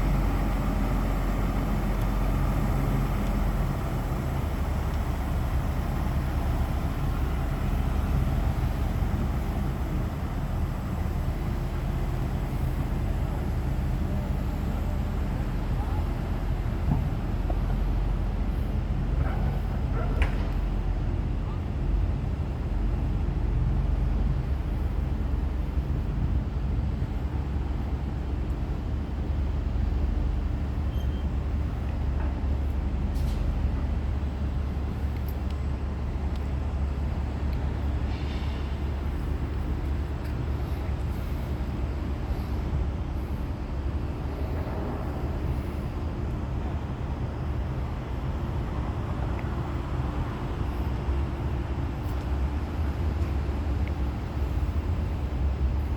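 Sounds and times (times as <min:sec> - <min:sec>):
heavy machinery engine rumbling: 0:00.0 - 0:55.9.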